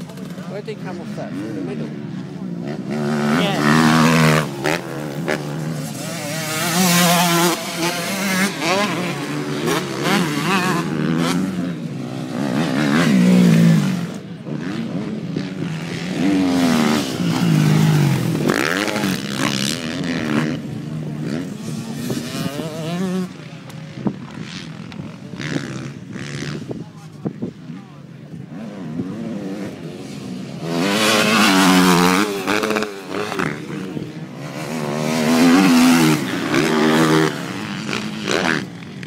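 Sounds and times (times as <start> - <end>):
motocross engines revving: 0.0 - 39.0.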